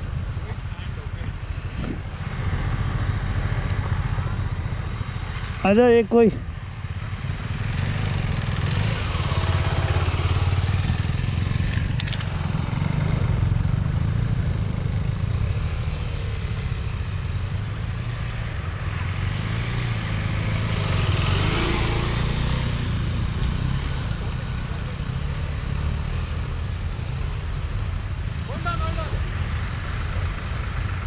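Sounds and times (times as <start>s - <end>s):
motorcycle engines running: 0.0s - 31.0s.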